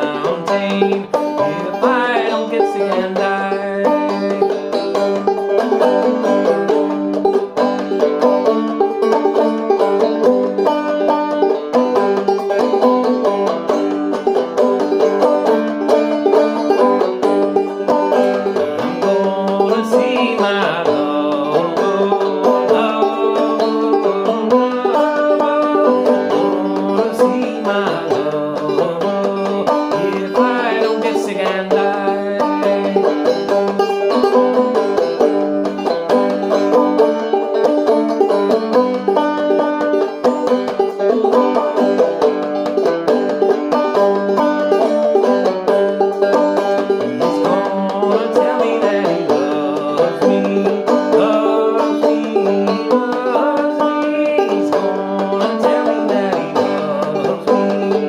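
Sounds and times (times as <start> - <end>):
banjo picking melody over drone: 0.0 - 58.0.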